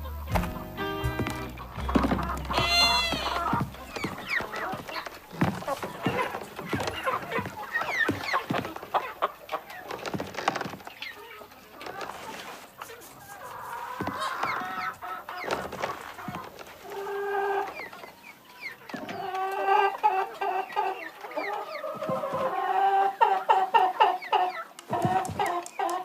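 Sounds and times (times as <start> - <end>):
chicken clucking: 0.0 - 26.0.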